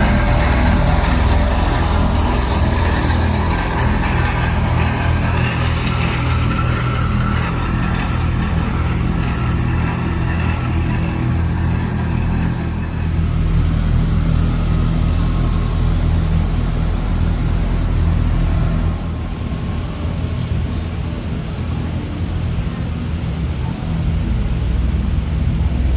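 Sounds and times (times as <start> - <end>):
road noise: 0.0 - 25.9
vehicle engine running: 0.0 - 25.9.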